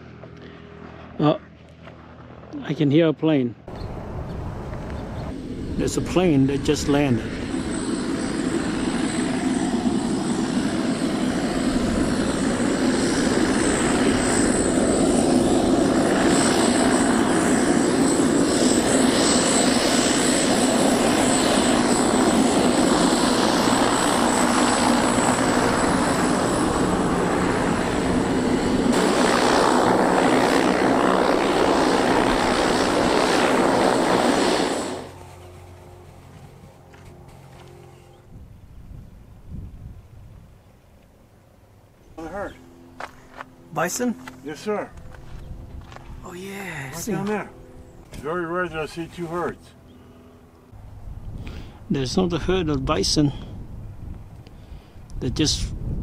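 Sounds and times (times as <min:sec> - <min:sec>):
propeller plane engine running: 0:00.0 - 0:56.0.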